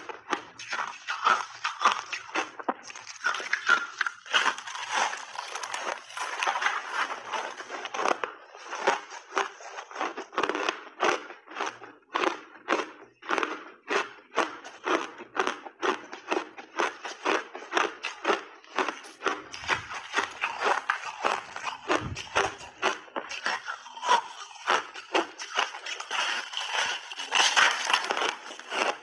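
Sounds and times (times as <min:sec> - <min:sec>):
ice crunching between teeth: 0:00.0 - 0:29.0.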